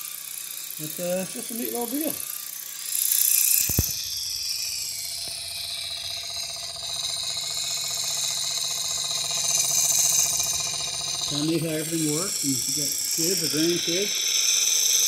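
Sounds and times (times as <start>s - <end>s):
steam engine whirring and rattling: 0.0s - 15.0s.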